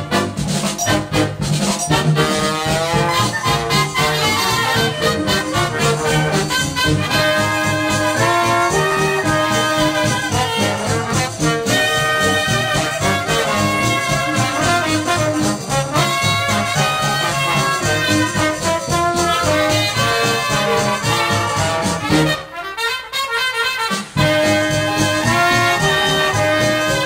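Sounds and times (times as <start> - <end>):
jazz band playing: 0.0 - 27.0
trombone: 0.0 - 27.0
trumpet: 0.0 - 27.0.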